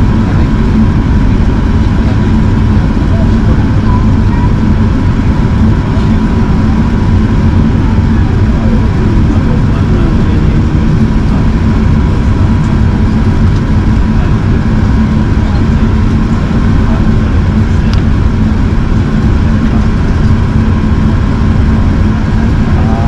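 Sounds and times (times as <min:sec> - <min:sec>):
aircraft cabin engine rumble: 0:00.0 - 0:23.0
faint steady hum: 0:00.0 - 0:23.0.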